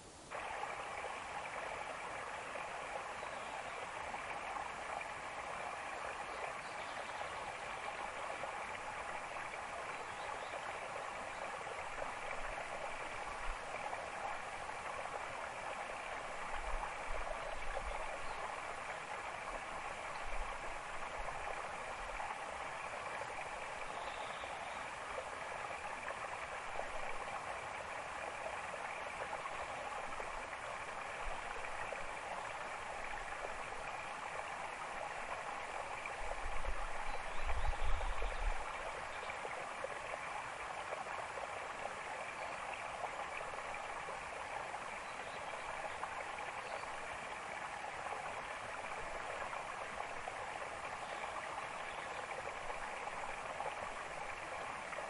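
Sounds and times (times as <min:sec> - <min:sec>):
forest stream rushing: 0:00.0 - 0:55.0.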